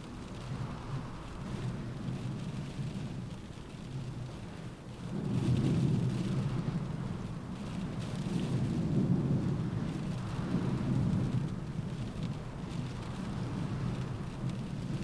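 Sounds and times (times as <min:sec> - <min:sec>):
wind rumbling: 0:00.0 - 0:15.0.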